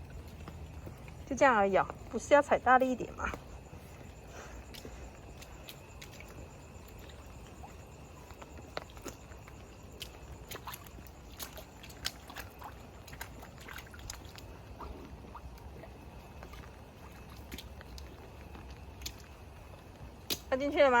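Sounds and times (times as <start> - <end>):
footsteps on wet ground: 0.0 - 21.0.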